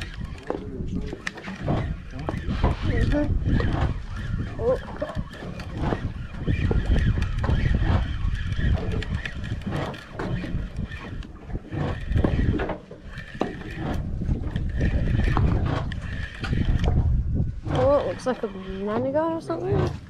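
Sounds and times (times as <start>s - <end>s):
fishing reel clicking: 0.0s - 17.0s, 17.6s - 18.9s
wind buffeting microphone: 0.0s - 20.0s.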